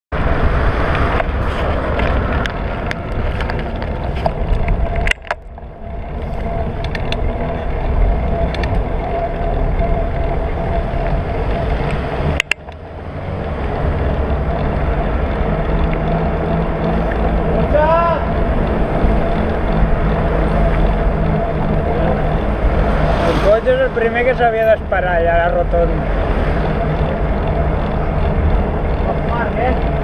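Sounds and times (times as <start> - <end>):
road and tyre rumble: 0.1 - 30.0
wind rushing over microphone: 0.1 - 30.0
bike rattles and clicks: 0.2 - 30.0.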